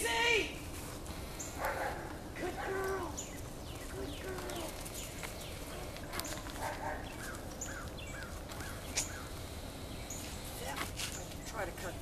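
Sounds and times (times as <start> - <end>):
birds chirping: 1.0 - 12.0.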